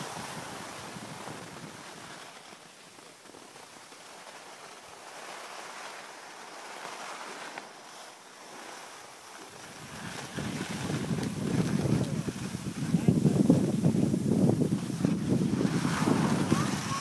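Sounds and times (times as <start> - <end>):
skis sliding over snow: 0.0 - 17.0.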